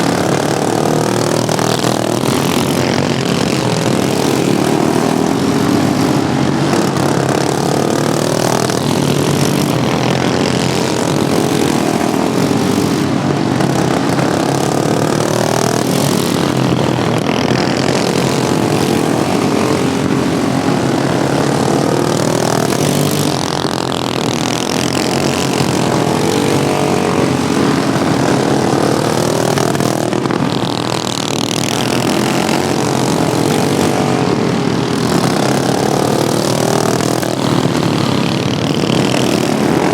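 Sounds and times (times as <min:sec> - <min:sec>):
racing lawnmower engines passing: 0:00.0 - 0:39.9.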